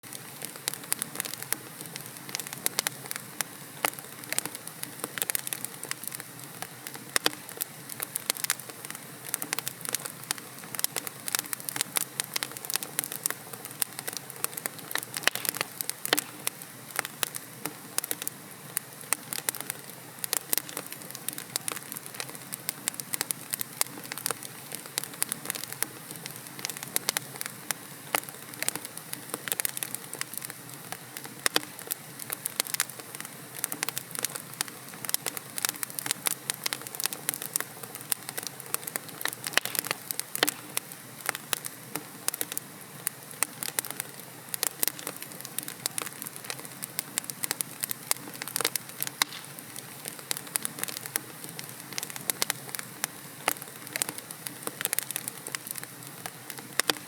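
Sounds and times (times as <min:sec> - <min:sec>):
fire crackling and popping: 0:00.0 - 0:57.0
fire hissing softly: 0:00.0 - 0:57.0.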